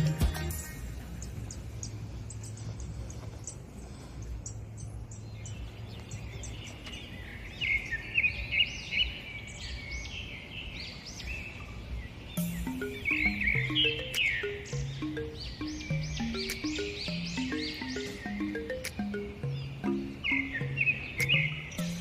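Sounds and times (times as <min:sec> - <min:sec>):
low outdoor hum: 0:00.0 - 0:22.0
small birds chirping and warbling: 0:00.0 - 0:22.0.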